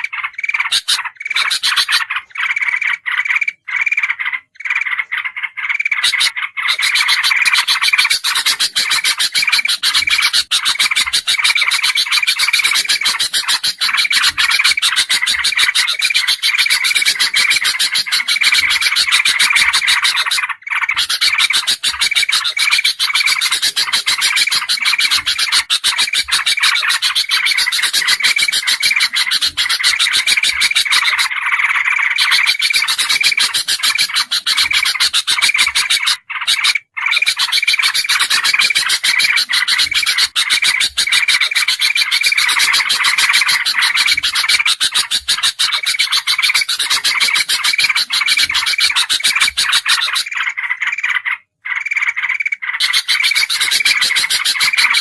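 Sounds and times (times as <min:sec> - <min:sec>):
bulbul calls chattering and whistling: 0:00.0 - 0:55.0.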